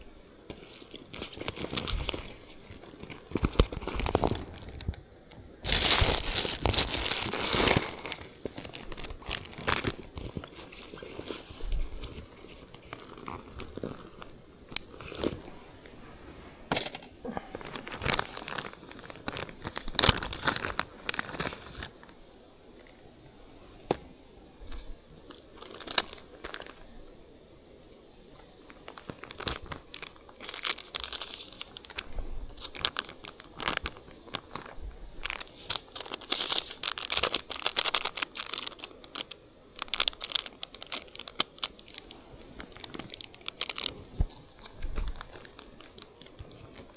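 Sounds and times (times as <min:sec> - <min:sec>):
material crinkling and rustling: 0:00.0 - 0:22.2, 0:23.9 - 0:27.2, 0:27.8 - 0:46.9.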